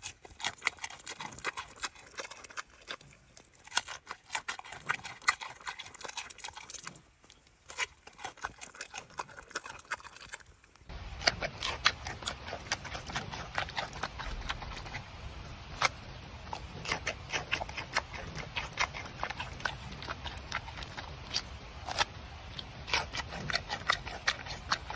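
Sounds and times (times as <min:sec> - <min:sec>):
low background noise: 0:00.0 - 0:24.9
panda crunching and chewing: 0:00.0 - 0:24.9.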